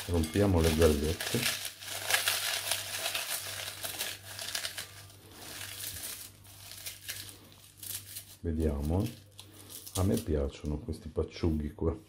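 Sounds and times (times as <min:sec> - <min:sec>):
rice cakes crackling and crunching: 0:00.0 - 0:10.8.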